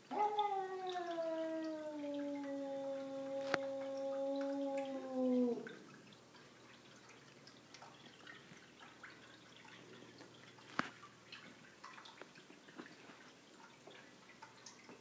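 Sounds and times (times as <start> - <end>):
faint ticks and clicks: 1.0 - 5.0, 5.6 - 15.0.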